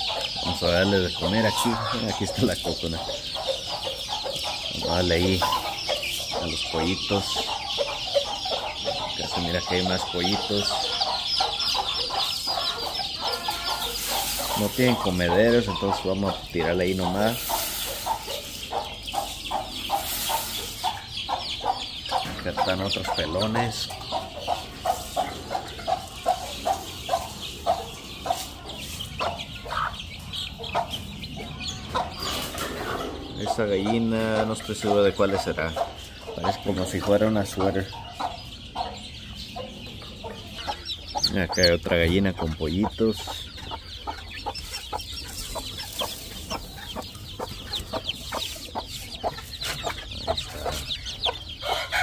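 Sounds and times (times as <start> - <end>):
chicken clucking: 0.0 - 52.0.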